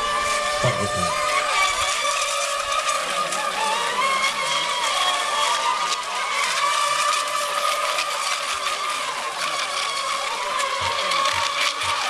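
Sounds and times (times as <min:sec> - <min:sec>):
racing boat motors whining: 0:00.0 - 0:12.0.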